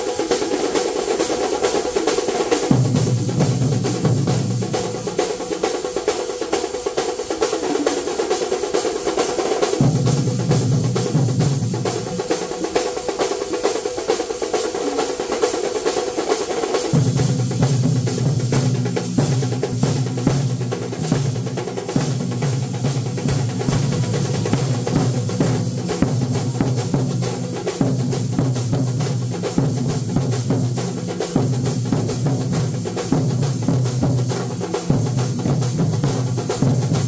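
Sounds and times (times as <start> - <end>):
deeper steady drum pattern: 0.0 - 37.0
rapid drumming: 0.0 - 37.0.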